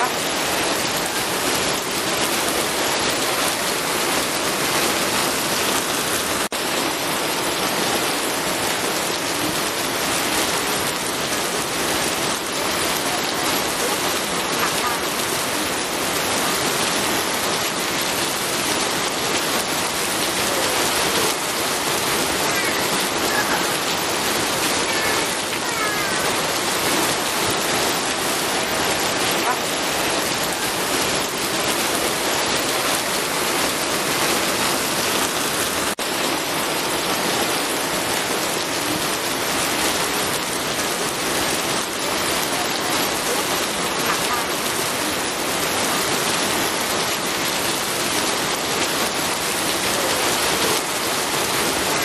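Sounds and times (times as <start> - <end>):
rain falling steadily: 0.0 - 52.0.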